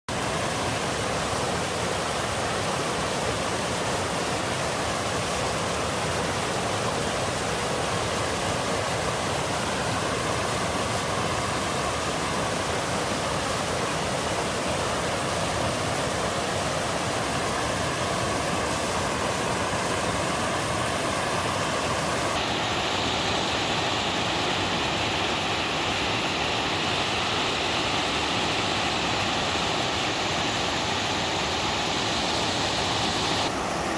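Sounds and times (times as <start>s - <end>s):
waterfall rushing and splashing: 0.1s - 33.9s.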